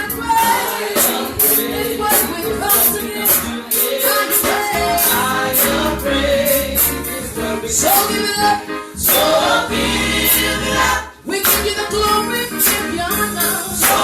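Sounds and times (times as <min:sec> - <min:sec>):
high bright percussion beat: 0:00.0 - 0:08.4, 0:09.0 - 0:14.0
gospel singing: 0:00.0 - 0:14.0.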